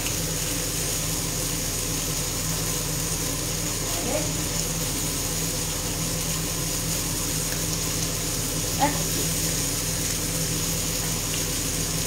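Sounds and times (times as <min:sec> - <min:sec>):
extractor fan humming: 0:00.0 - 0:12.0
food frying in a skillet: 0:00.0 - 0:12.0.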